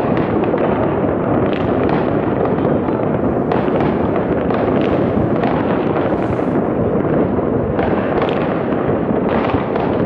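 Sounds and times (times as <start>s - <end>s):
distant fireworks crackling: 0.0s - 10.0s.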